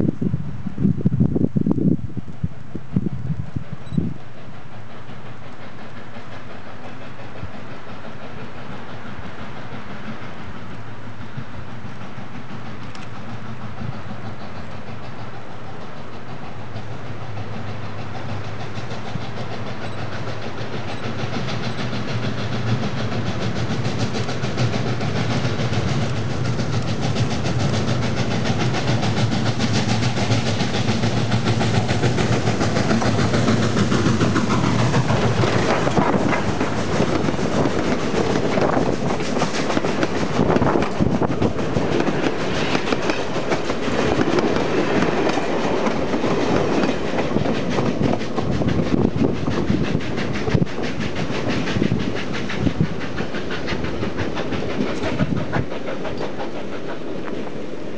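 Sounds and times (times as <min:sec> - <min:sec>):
steam locomotive passing: 0:00.0 - 0:57.9
train wheels clattering over rail joints: 0:03.5 - 0:57.9.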